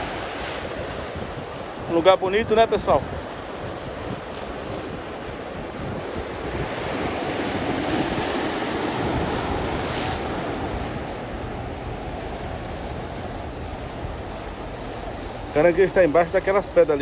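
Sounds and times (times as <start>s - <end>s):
waves breaking over rocks: 0.0s - 17.0s.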